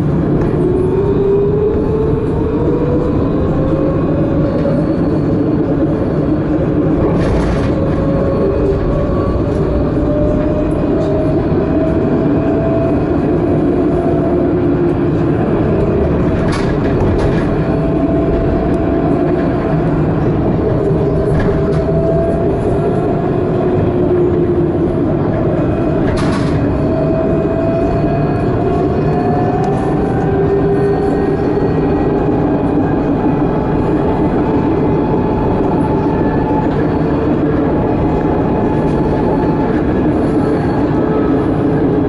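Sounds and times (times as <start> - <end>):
tram wheels rumbling on rail: 0.0 - 42.0.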